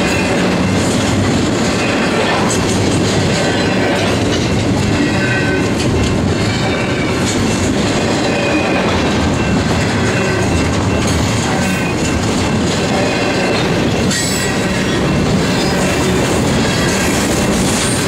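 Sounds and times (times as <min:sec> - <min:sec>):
train wheels rumbling and rattling: 0:00.0 - 0:18.0.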